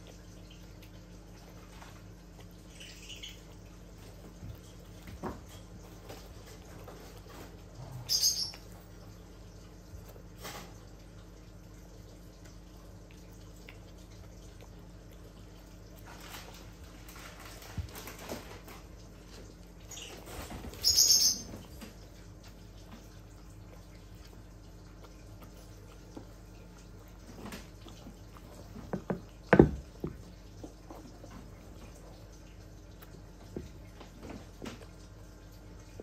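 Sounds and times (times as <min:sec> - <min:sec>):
dog chewing and lapping: 0:00.0 - 0:36.0.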